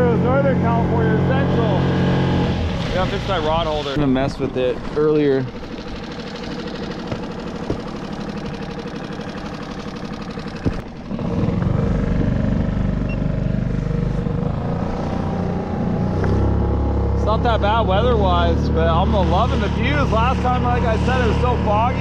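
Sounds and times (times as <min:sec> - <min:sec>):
small outboard motor running: 0:00.0 - 0:22.0.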